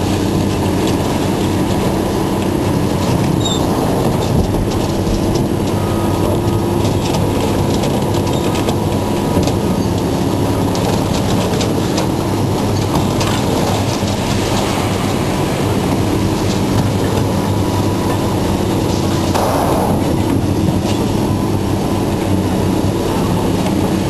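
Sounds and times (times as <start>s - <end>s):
heavy diesel machinery droning: 0.0s - 24.0s.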